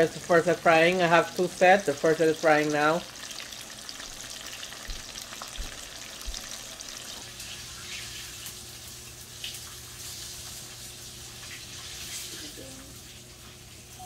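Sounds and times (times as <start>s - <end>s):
fish frying in oil: 0.0s - 14.0s.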